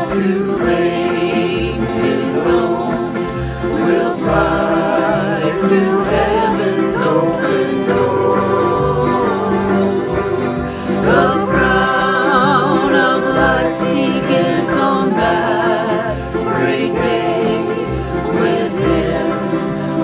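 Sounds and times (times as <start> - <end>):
strummed acoustic guitars: 0.0 - 20.0
ukulele: 0.0 - 20.0
voices singing gospel song: 0.0 - 20.0.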